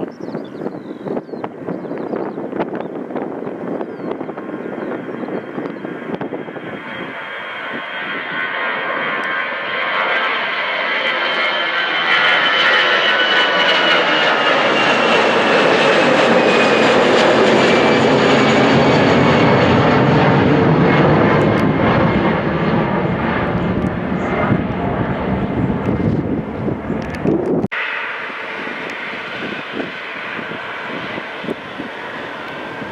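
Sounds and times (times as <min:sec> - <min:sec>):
high jet engine whine: 0:00.0 - 0:32.9
jet airliner passing: 0:00.0 - 0:32.9.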